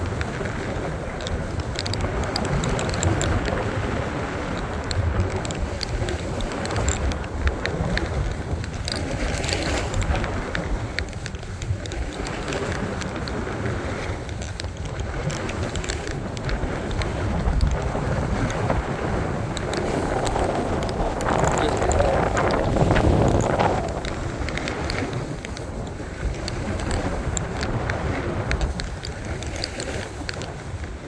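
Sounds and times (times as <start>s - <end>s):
faint scattered ticks: 0.0s - 18.8s, 19.5s - 31.0s
wind buffeting microphone: 0.0s - 31.0s.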